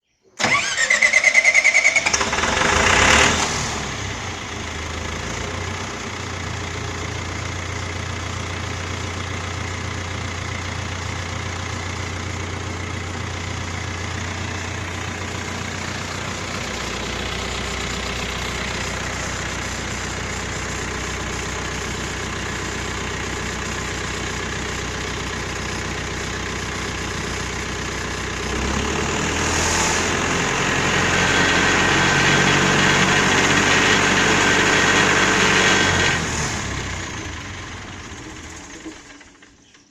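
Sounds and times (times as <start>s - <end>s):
generator engine running: 0.4s - 39.9s
starter motor whine: 0.4s - 39.9s.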